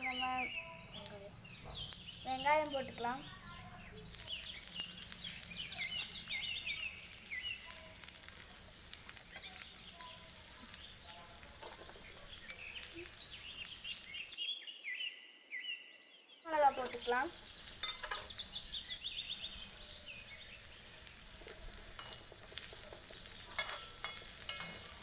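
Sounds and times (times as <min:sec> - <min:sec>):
onions sizzling in hot oil: 0:00.0 - 0:14.4, 0:16.5 - 0:25.0
birds chirping: 0:00.0 - 0:25.0.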